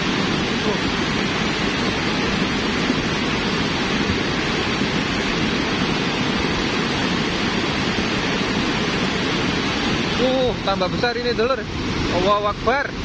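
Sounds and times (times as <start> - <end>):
mudflow torrent rumbling: 0.0 - 13.0.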